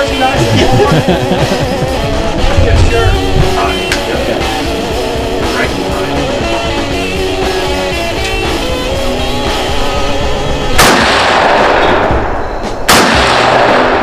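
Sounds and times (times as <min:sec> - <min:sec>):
rock music with guitars: 0:00.0 - 0:14.0.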